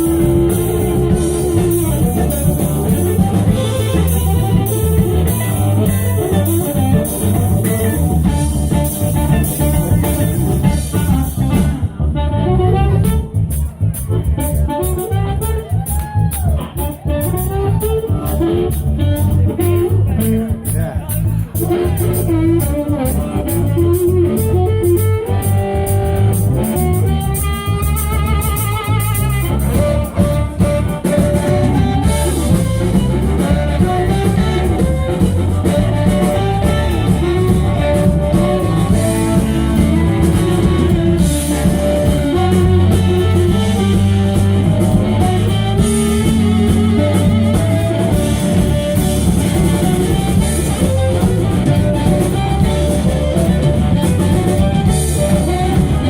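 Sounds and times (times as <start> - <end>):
bass guitar: 0.0 - 56.0
blues band playing instrumental: 0.0 - 56.0
drum kit: 0.0 - 56.0
lead guitar: 0.0 - 56.0.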